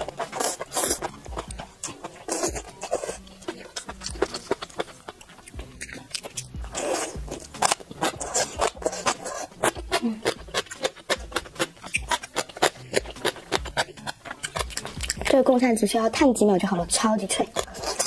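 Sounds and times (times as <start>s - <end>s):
crisp crunching while chewing: 0.0s - 15.4s, 17.3s - 18.0s
wet slurping: 0.0s - 15.4s, 17.5s - 18.0s.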